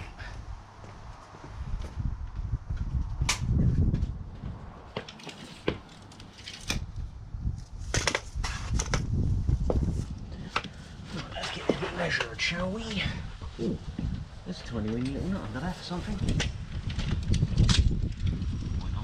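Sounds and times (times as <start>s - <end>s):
low rumbling: 0.0s - 19.0s.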